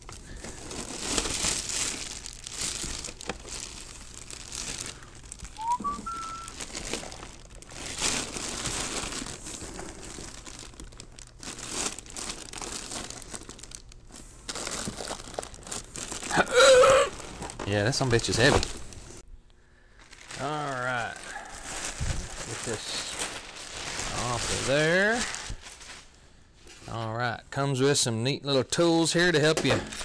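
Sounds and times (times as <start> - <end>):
plastic wrapping crinkling: 0.0 - 19.2, 20.0 - 26.2.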